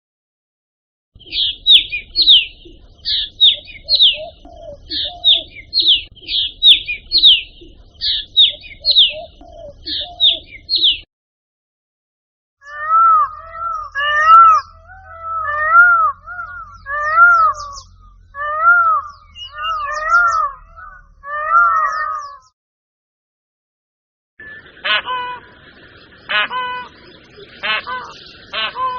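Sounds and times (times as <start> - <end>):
bird high sharp chirps: 1.2 - 11.1, 12.7 - 22.5, 24.4 - 28.9
bird lower arched call: 1.2 - 11.1, 12.6 - 22.5, 24.4 - 28.9.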